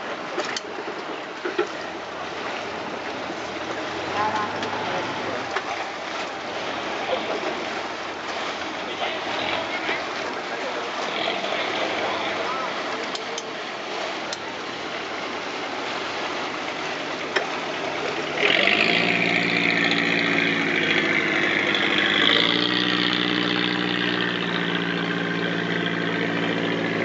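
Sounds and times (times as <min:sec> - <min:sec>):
boat engine drone: 0:00.0 - 0:27.0
water wash: 0:00.0 - 0:27.0.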